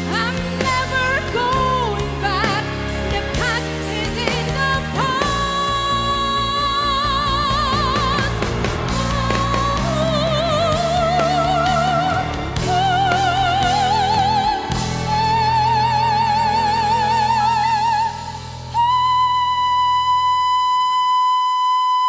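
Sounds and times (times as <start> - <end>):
backing track music: 0.0 - 20.4
woman singing operatically: 0.0 - 22.0.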